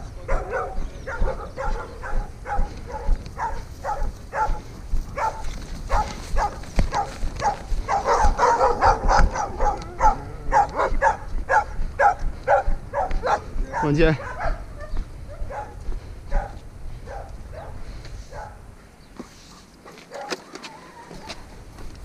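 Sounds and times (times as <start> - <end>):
dogs barking: 0.0 - 18.8, 19.8 - 21.4.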